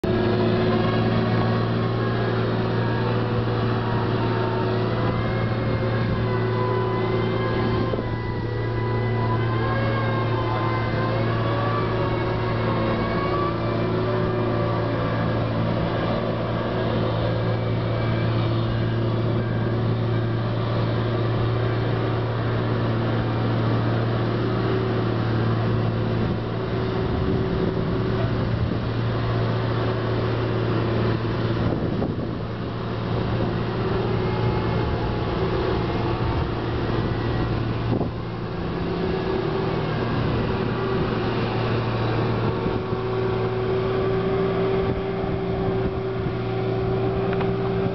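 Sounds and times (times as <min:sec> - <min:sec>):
crane engine droning: 0:00.0 - 0:47.9.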